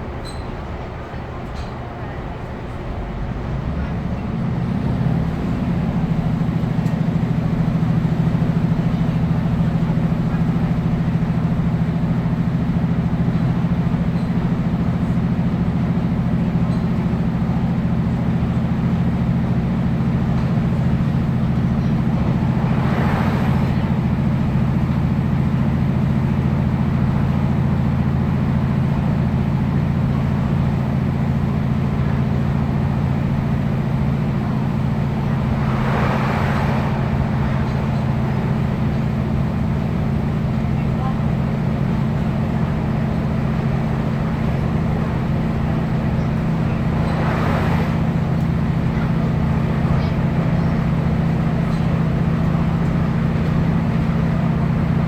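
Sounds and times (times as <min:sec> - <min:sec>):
train diesel engine drone: 0:00.0 - 0:55.0.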